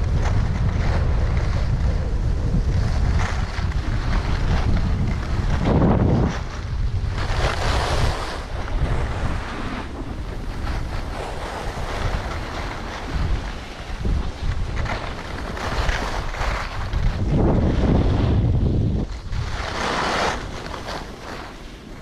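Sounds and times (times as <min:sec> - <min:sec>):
skis scraping on packed snow: 0:00.0 - 0:22.0
wind buffeting microphone: 0:00.0 - 0:22.0.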